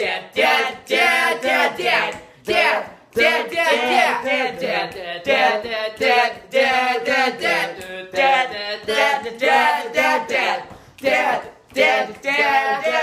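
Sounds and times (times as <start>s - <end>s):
boys singing a cappella: 0.0s - 13.0s.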